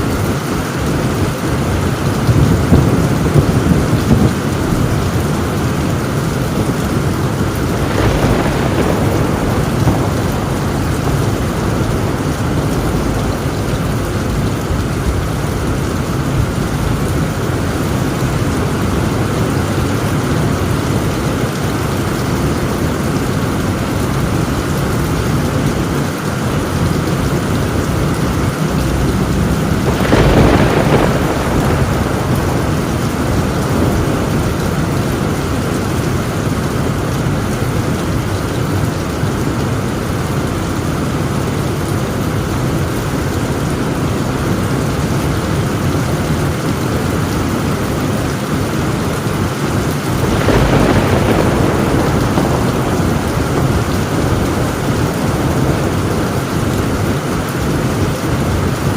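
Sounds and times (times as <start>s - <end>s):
heavy rain on a tin roof: 0.0s - 58.9s
thunder rolling: 0.0s - 58.9s.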